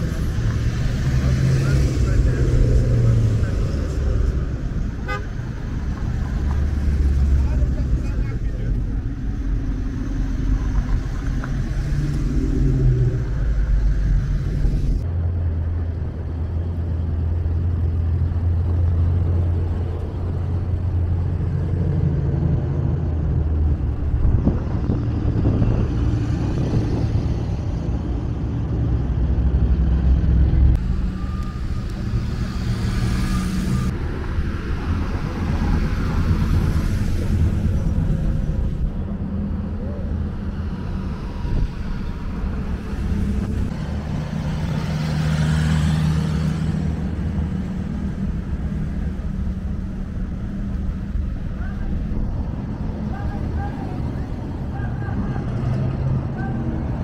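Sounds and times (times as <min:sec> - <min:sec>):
slow traffic rumble: 0:00.0 - 0:57.0.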